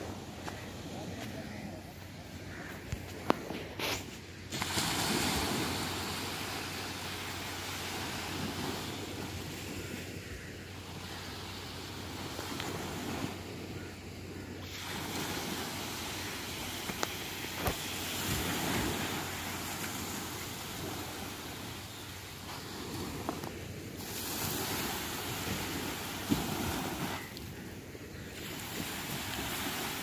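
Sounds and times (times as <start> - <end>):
small waves washing onto shore: 0.0 - 30.0.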